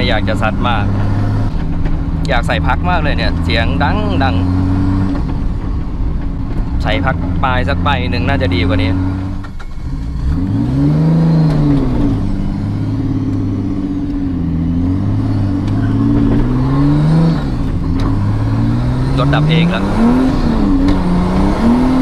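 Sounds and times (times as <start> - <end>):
loud car engine and exhaust: 0.0 - 22.0.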